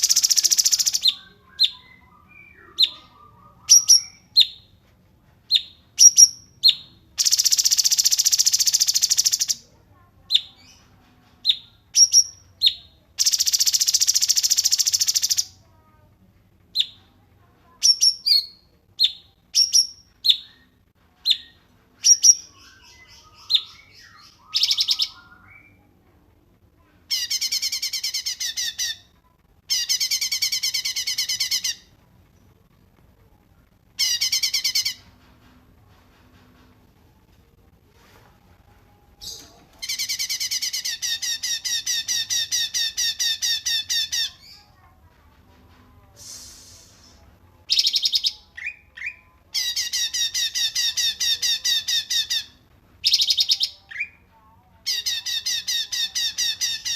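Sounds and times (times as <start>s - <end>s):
songbird chirping: 0.0s - 56.9s.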